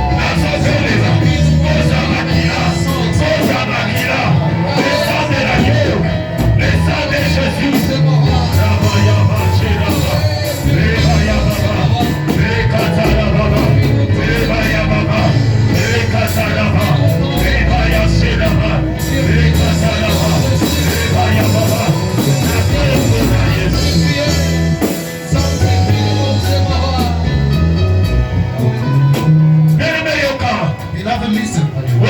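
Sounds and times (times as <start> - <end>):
voices singing along: 0.0 - 27.8, 28.6 - 32.0
band playing worship music: 0.0 - 32.0.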